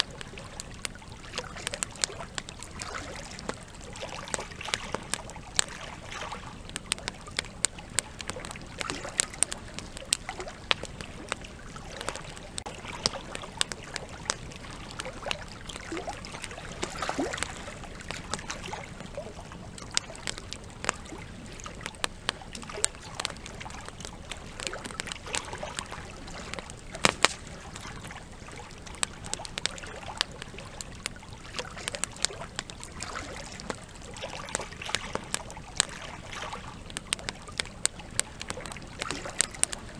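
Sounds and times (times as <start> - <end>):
river water flowing: 0.0 - 37.7
campfire crackling and popping: 0.0 - 39.9.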